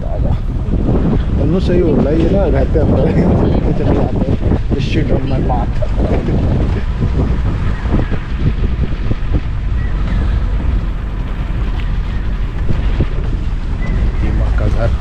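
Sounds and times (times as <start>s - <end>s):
vehicle engine and road rumble: 0.0s - 15.0s
wind buffeting microphone: 0.0s - 15.0s.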